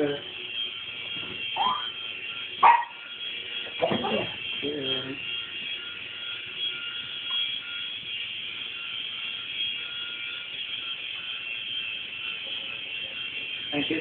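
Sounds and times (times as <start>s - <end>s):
toy helicopter rotor whining: 0.0s - 14.0s.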